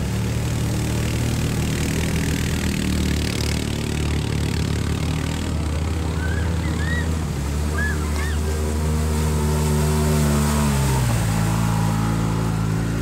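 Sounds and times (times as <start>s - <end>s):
atv engine running: 0.0s - 13.0s
water splashing from wheels: 0.0s - 13.0s.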